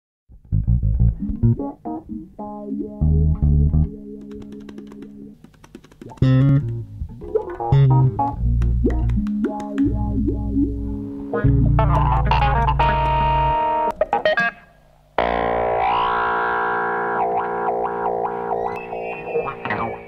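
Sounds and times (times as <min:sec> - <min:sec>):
instrumental theme music: 0:00.3 - 0:20.0.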